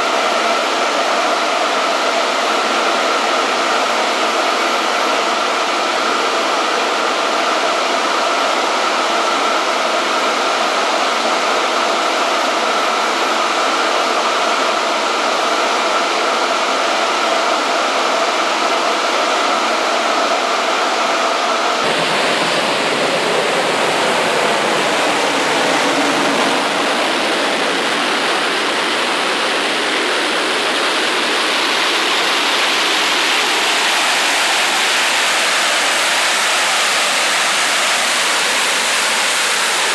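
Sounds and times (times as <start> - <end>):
gas turbine rushing roar: 0.0 - 39.9.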